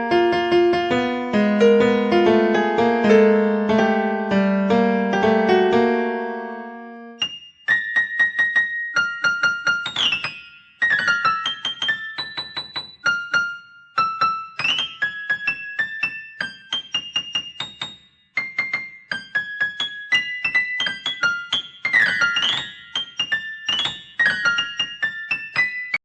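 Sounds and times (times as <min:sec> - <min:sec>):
piano ringtone tune: 0:00.0 - 0:26.0.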